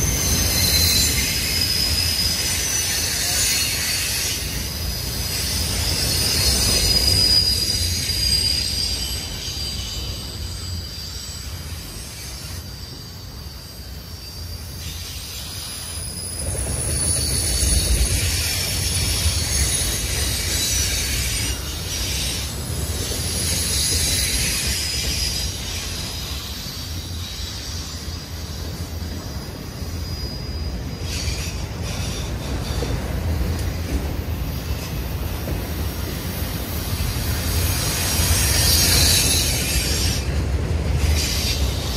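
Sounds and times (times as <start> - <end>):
freight train wheels rumbling: 0.0 - 41.9
train wheel squeal: 0.0 - 41.9.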